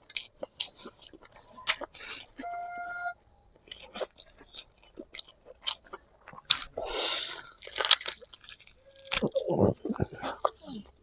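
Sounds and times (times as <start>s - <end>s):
close chewing and biting: 0.0s - 2.5s, 3.5s - 11.0s.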